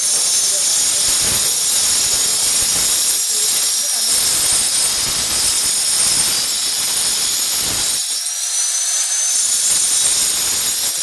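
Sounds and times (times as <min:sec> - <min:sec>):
angle grinder whining: 0:00.0 - 0:11.0
grinder disc cutting glass: 0:00.0 - 0:11.0.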